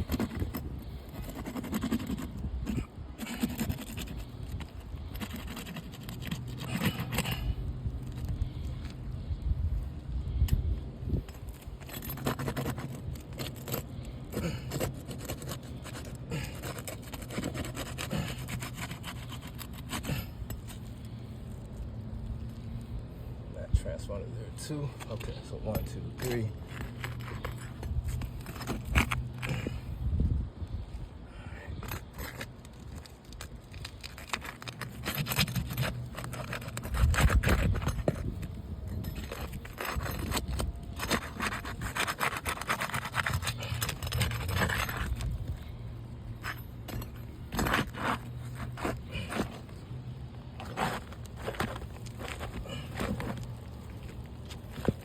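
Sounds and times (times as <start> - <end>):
scraping and rubbing: 0.0 - 9.0, 11.1 - 23.3, 24.7 - 29.9, 31.7 - 55.0
steady low hum: 0.0 - 55.0.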